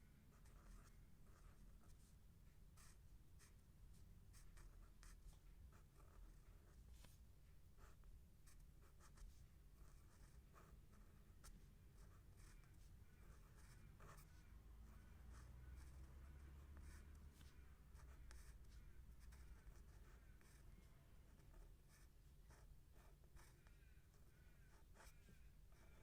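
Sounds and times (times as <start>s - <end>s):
pen scratching on paper: 0.3s - 2.1s, 2.8s - 3.5s, 4.3s - 7.2s, 7.8s - 26.0s.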